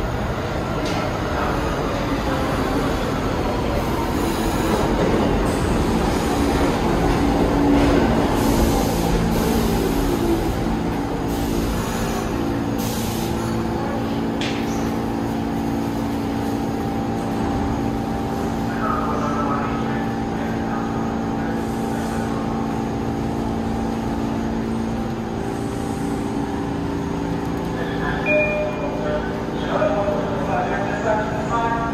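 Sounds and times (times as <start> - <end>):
subway train humming: 0.0 - 31.9.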